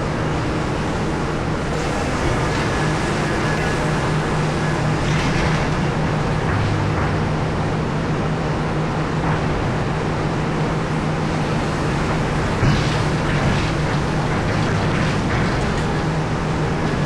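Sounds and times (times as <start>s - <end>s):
heavy mining machinery running: 0.0s - 17.0s.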